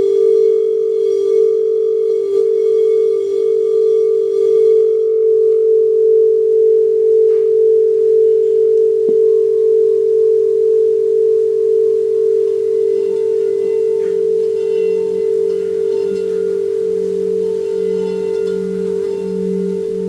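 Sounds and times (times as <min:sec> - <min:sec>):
singing bowl sustained tone: 0:00.0 - 0:20.0.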